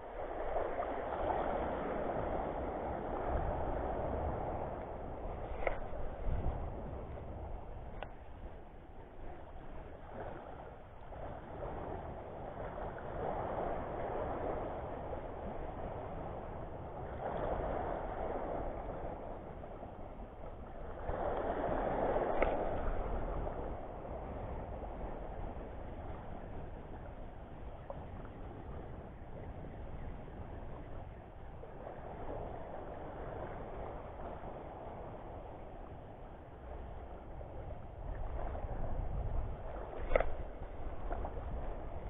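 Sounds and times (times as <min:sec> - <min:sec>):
small waves washing: 0:00.0 - 0:42.0.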